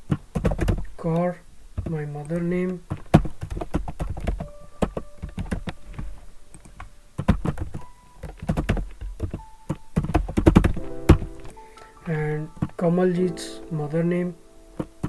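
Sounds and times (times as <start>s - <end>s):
computer keyboard typing: 0.0s - 1.2s, 1.8s - 13.2s.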